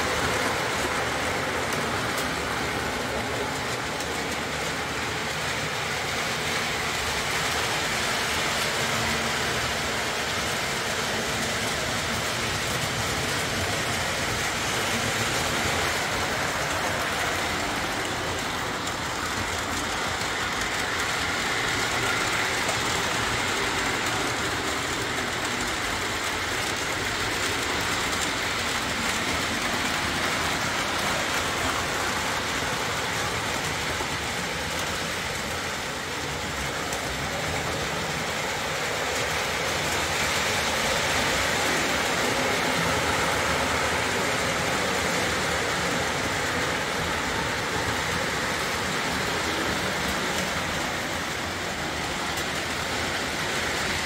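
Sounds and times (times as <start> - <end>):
model train motor whirring: 0.0 - 54.0.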